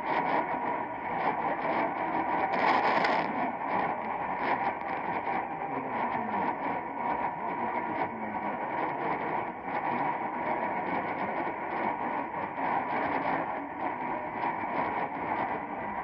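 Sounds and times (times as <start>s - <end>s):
radio static hiss: 0.0s - 16.0s
static crackles and pops: 0.0s - 16.0s
weak radio station: 0.0s - 16.0s.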